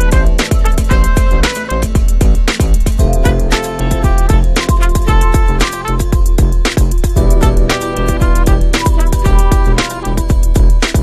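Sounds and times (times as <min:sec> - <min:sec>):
instrumental music with drum beat: 0:00.0 - 0:11.0.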